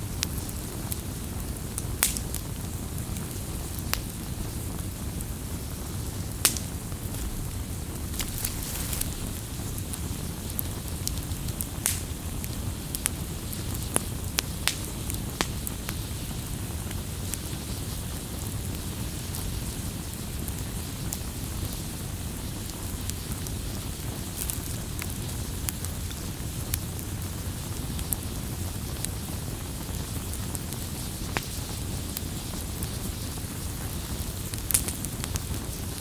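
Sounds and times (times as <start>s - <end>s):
bonfire crackling: 0.1s - 36.0s
fire popping and snapping: 0.2s - 36.0s.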